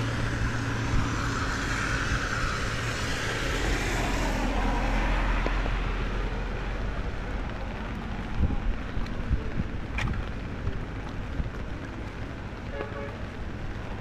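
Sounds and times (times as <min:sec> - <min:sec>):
steady low traffic rumble: 0:00.0 - 0:14.0
tyres hissing on wet road: 0:00.0 - 0:14.0.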